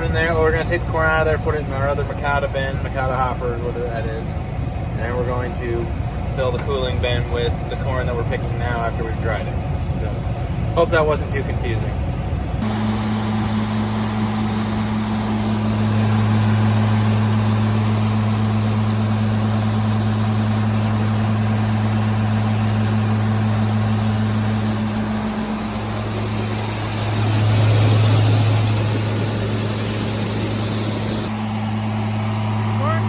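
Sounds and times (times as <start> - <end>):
engine humming with hiss: 0.0 - 33.0.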